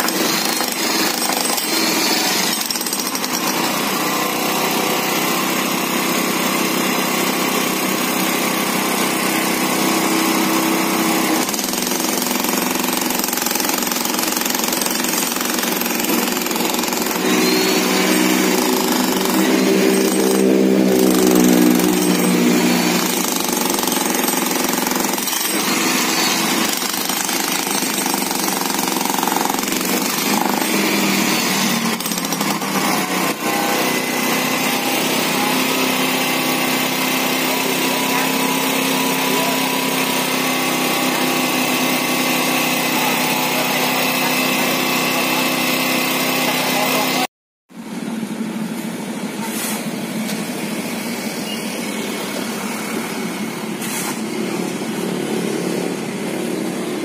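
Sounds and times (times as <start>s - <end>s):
jackhammer hammering concrete: 0.0s - 47.3s, 50.3s - 56.6s.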